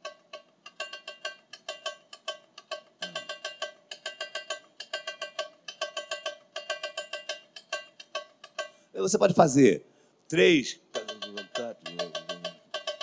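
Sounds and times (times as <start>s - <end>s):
tamborim struck with a stick: 0.0s - 8.8s, 11.0s - 13.0s.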